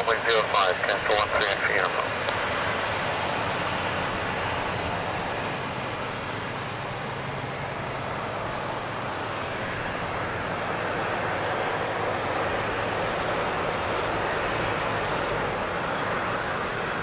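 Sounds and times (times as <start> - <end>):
jet engines taxiing: 0.0 - 17.0.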